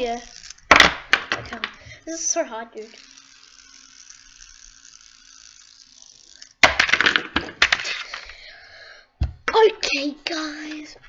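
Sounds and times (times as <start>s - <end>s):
fidget spinner rattling: 0.0s - 8.5s, 9.9s - 11.0s.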